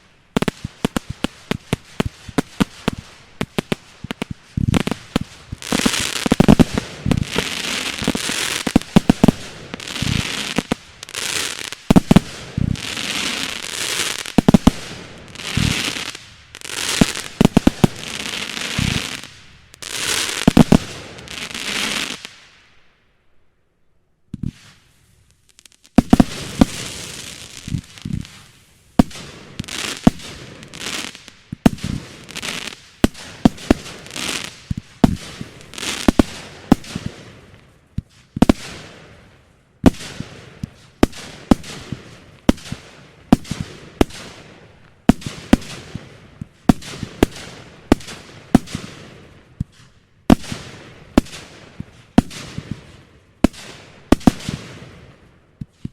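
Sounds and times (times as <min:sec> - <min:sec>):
crackling hiss of fireworks: 0:00.0 - 0:23.2, 0:24.3 - 0:55.9.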